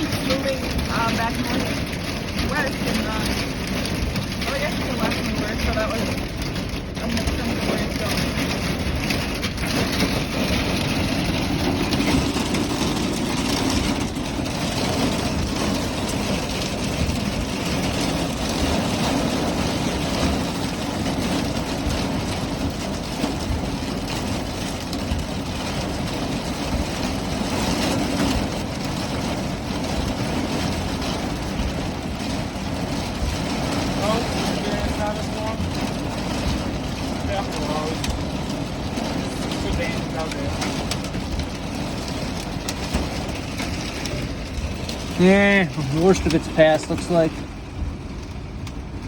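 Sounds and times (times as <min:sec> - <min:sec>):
rain and hail on car roof: 0:00.0 - 0:49.0.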